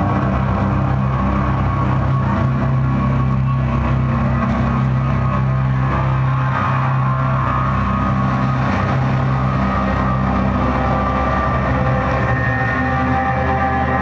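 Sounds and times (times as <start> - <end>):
electronic music drone: 0.0 - 14.0.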